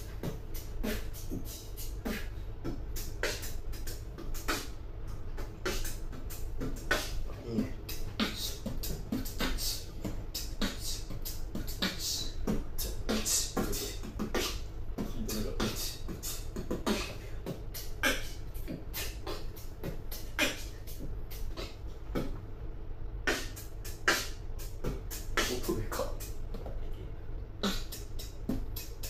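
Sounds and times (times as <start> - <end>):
beatboxing: 0.0 - 29.0.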